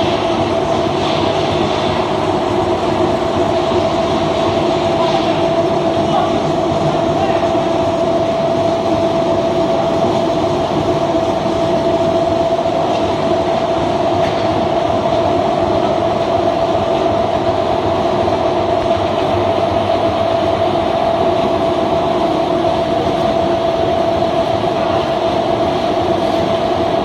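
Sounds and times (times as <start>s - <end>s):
granulator machine rumbling: 0.0s - 27.0s.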